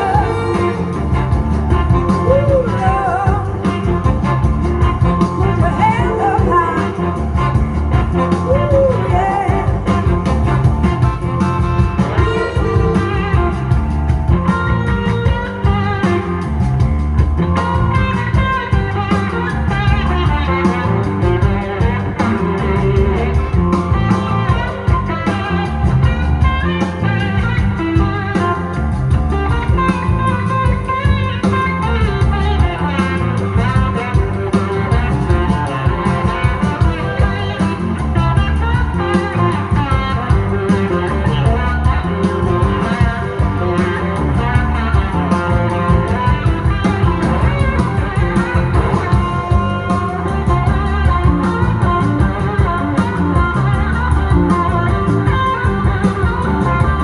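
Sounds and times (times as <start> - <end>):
drum beat: 0.0 - 57.0
electric guitar: 0.0 - 57.0.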